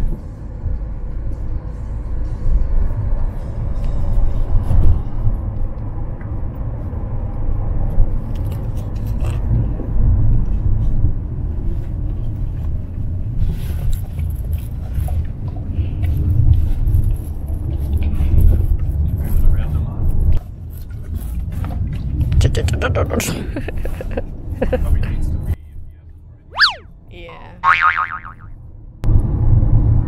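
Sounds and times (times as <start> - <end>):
car road rumble from inside: 0.0 - 25.6.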